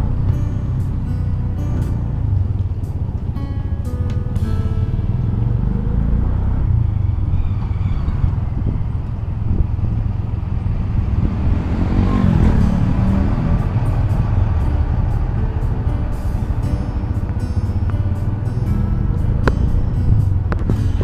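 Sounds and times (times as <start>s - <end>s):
motorcycle engine and road rumble: 0.0s - 21.0s
wind noise: 0.0s - 21.0s.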